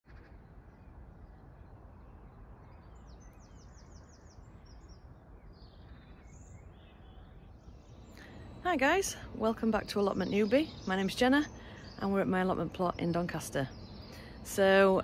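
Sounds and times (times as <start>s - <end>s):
faint low background noise: 0.1s - 15.0s
songbirds singing: 0.1s - 15.0s.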